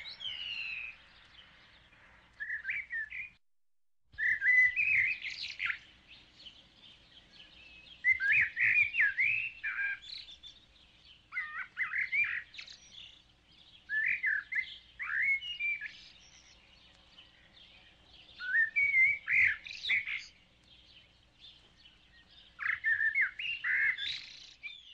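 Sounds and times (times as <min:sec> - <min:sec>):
birds twittering and trilling: 0:00.0 - 0:03.4, 0:04.2 - 0:24.9.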